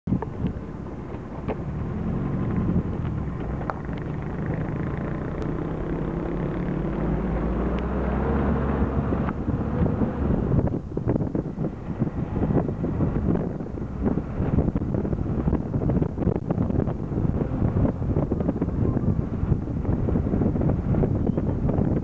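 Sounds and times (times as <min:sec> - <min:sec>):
wind and road noise: 0:00.0 - 0:22.0
vehicle engine running: 0:00.1 - 0:22.0.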